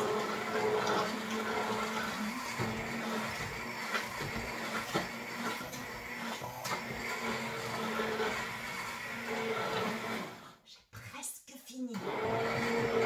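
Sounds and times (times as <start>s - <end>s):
batter churning: 0.0s - 10.5s
immersion blender whirring: 0.0s - 10.6s, 11.9s - 13.0s.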